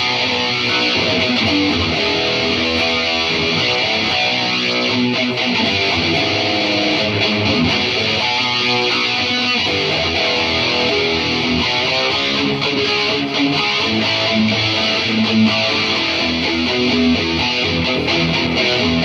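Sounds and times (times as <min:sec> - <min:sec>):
electric guitar noodling: 0:00.0 - 0:19.0.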